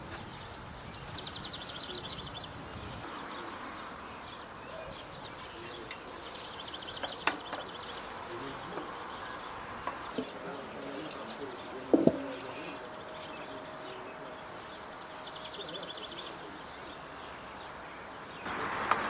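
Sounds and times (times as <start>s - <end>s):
songbird trilling: 0.2s - 18.6s.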